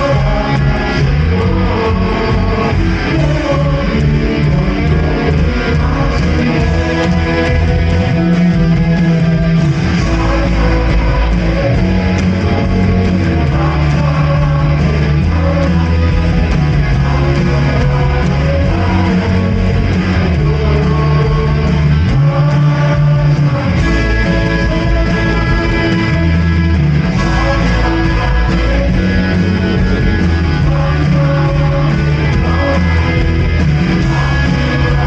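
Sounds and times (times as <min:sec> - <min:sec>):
guitar chords: 0:00.0 - 0:35.0
low bass notes: 0:00.0 - 0:35.0
worship band playing: 0:00.0 - 0:35.0.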